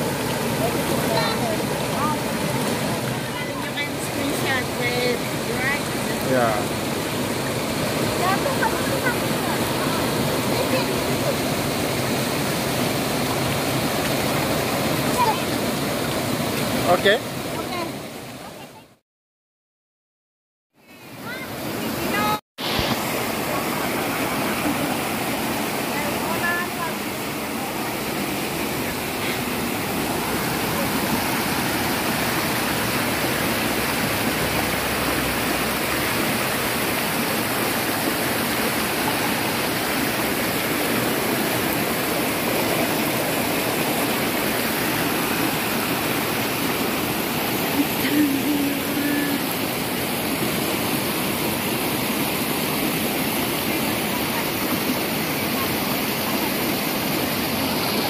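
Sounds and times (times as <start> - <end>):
stream rushing over rocks: 0.0 - 19.0, 20.8 - 58.0.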